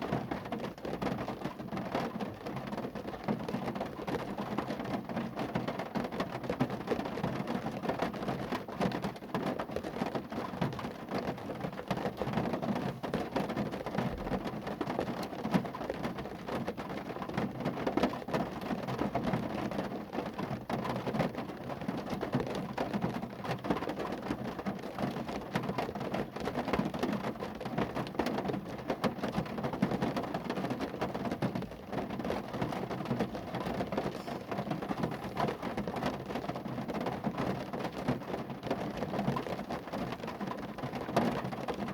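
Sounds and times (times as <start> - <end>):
rain pattering on a car: 0.0 - 41.9.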